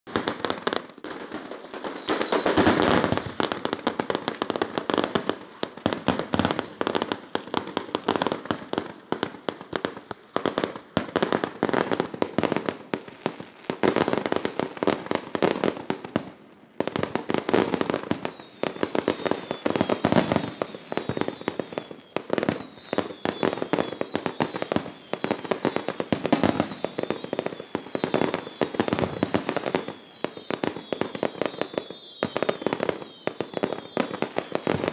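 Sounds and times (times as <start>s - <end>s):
falling firework whistles: 0.1s - 16.2s, 16.8s - 34.9s
fireworks bangs and crackling: 0.1s - 34.9s.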